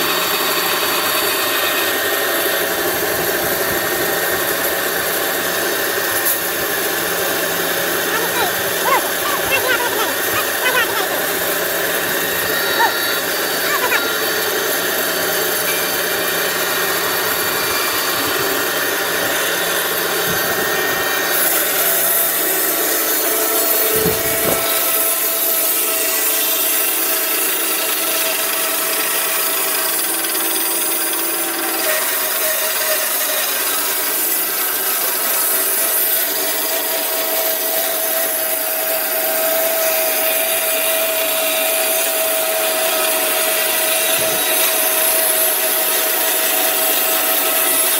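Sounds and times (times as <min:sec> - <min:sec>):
band saw cutting logs: 0:00.0 - 0:47.9.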